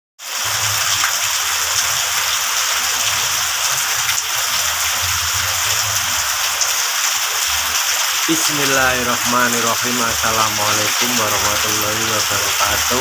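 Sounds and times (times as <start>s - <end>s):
heavy rain on foliage: 0.2s - 13.0s
runoff water splashing on ground: 0.2s - 13.0s.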